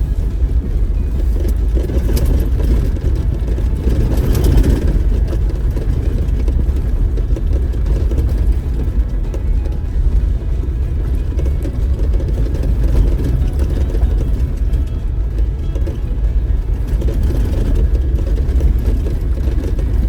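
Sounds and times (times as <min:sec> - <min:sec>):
vehicle engine and tyre rumble: 0:00.0 - 0:20.0
vehicle rattles and knocks: 0:00.0 - 0:20.0.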